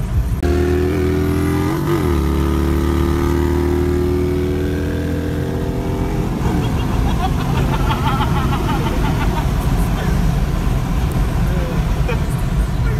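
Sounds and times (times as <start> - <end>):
car engine cruising: 0.0 - 12.9.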